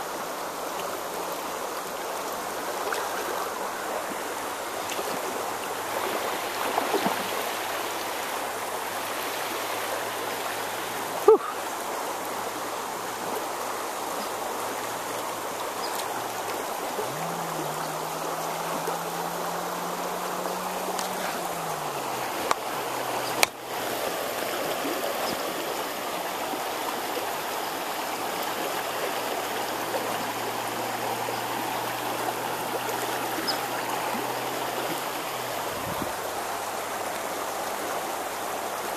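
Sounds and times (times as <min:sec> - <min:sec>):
stream water over rocks: 0:00.0 - 0:38.9.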